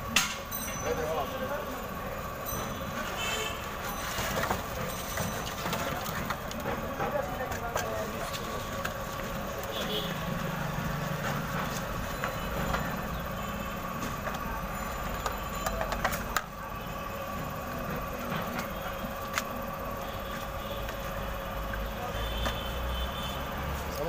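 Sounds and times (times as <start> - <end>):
street noise hum: 0.0 - 24.0.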